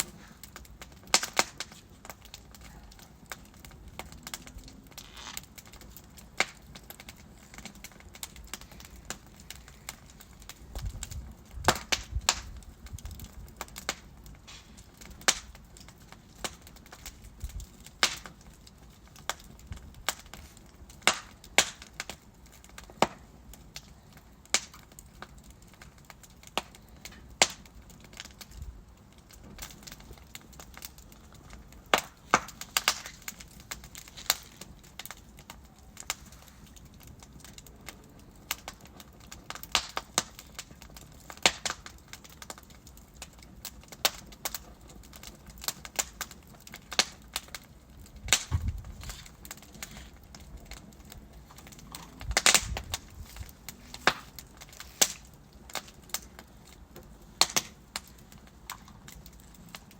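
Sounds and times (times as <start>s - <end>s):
low rumble of flame: 0.0s - 59.9s
wood fire crackling: 0.0s - 59.9s.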